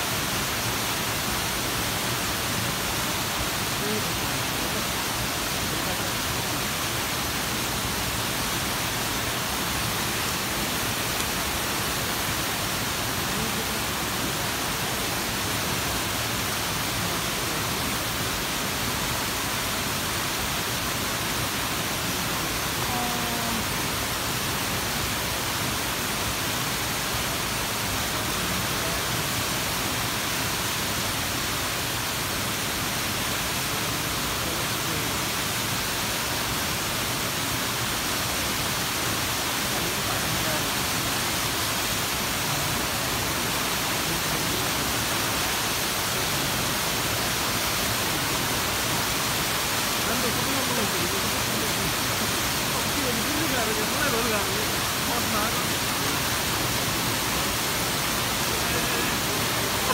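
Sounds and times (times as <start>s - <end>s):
waterfall rushing over rock: 0.0s - 59.9s.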